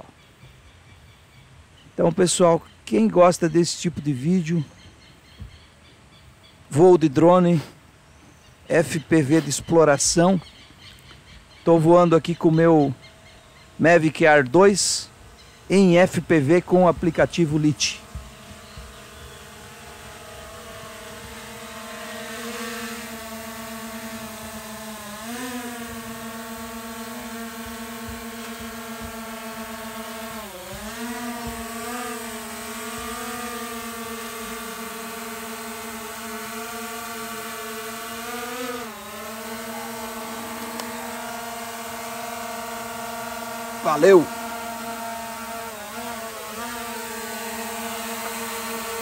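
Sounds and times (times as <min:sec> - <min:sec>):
drone propellers humming: 0:00.0 - 0:49.0.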